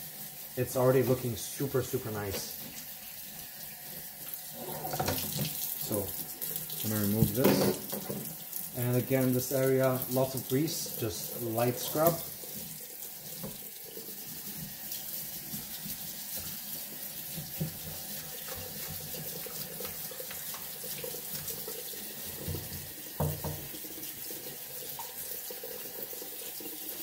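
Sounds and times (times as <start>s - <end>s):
water splashing into metal sink: 4.4s - 27.0s.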